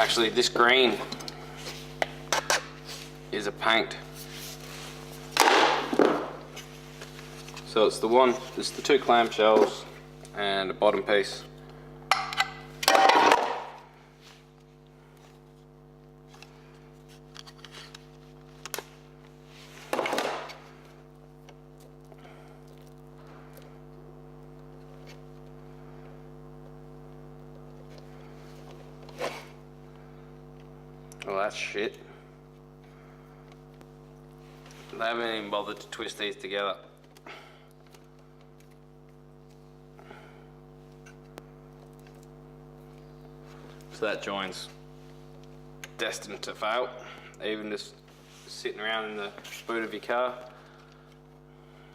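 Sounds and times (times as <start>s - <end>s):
steady electrical hum: 0.0s - 51.9s.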